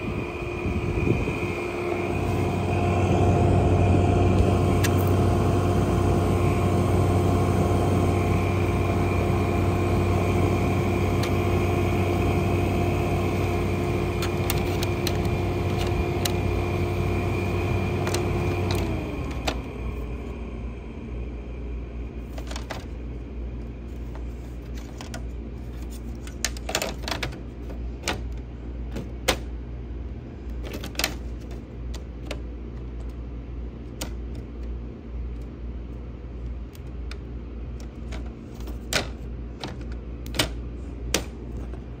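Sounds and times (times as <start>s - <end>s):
air conditioner humming: 0.0s - 42.0s.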